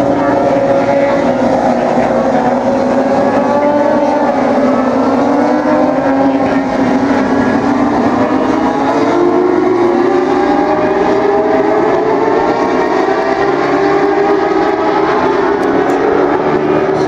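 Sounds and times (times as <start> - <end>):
racing motorcycle engines droning: 0.0 - 17.0.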